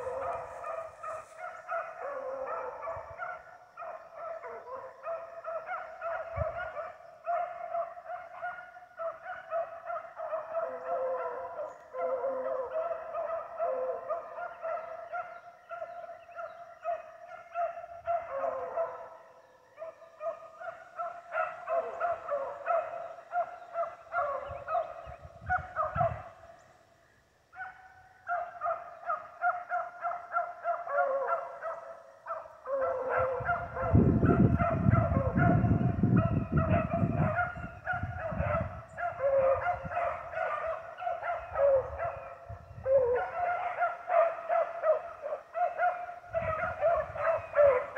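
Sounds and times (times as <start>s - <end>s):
beagles baying: 0.0s - 26.7s, 27.5s - 47.9s.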